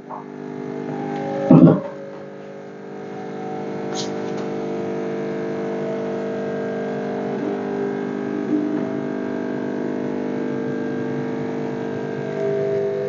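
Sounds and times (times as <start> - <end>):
espresso machine pump humming: 0.0 - 13.0.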